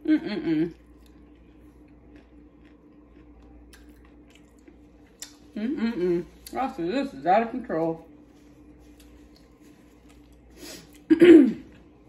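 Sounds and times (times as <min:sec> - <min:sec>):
steady low hum: 0:00.0 - 0:12.0
person chewing: 0:00.4 - 0:06.6, 0:08.4 - 0:12.0.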